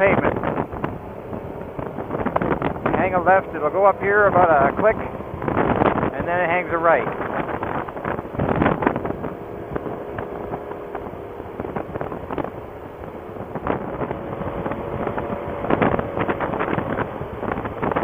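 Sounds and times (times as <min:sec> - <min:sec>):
motorcycle engine hum: 0:00.0 - 0:18.0
wind buffeting on microphone: 0:00.0 - 0:18.0.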